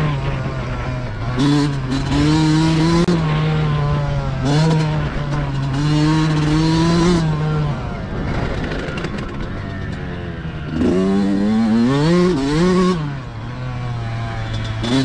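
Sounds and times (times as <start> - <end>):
motocross bike engine accelerating: 0.0 - 15.0.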